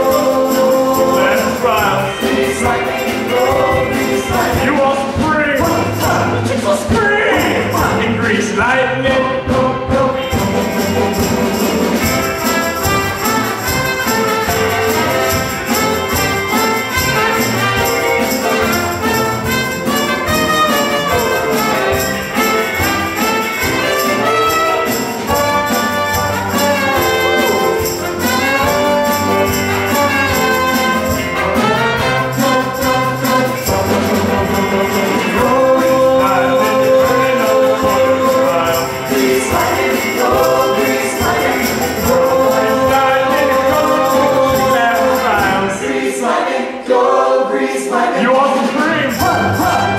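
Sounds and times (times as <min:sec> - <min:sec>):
upbeat band music: 0:00.0 - 0:49.9.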